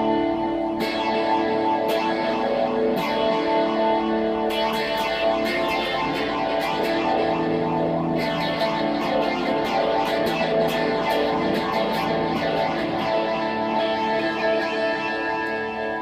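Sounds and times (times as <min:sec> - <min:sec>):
plucked guitar with effects: 0:00.0 - 0:16.0.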